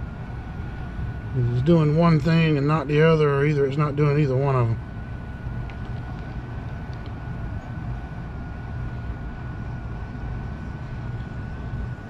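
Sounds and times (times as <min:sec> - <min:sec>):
air handler blower humming: 0:00.0 - 0:12.0
thin steady whine: 0:00.0 - 0:12.0.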